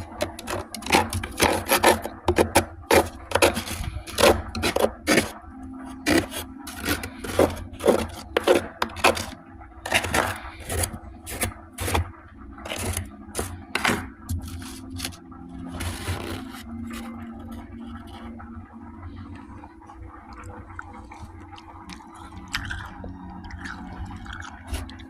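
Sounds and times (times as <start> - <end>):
ice being crunched and chewed: 0.0 - 18.5, 20.2 - 25.0.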